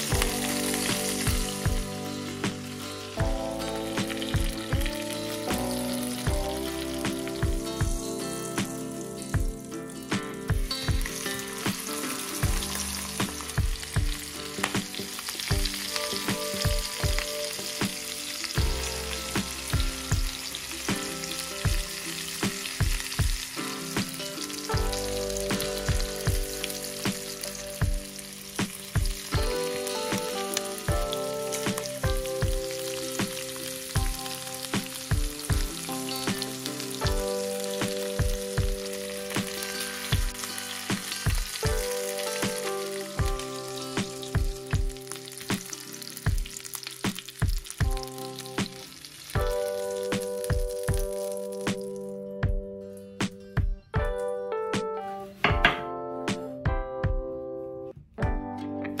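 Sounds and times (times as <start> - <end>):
chicken sizzling in oil: 0.0 - 52.1.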